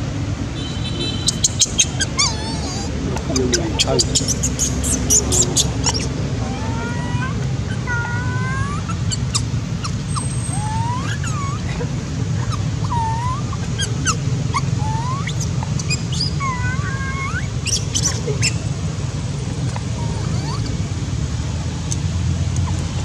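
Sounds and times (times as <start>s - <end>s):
monkey whimpering coo calls: 1.4s - 18.7s, 19.6s - 20.9s.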